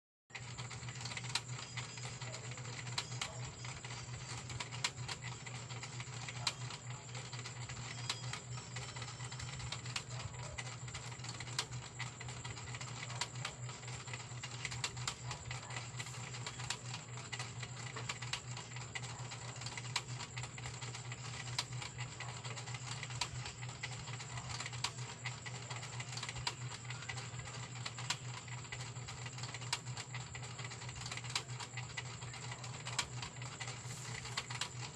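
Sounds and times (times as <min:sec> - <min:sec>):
steady low hum: 0:00.4 - 0:34.9.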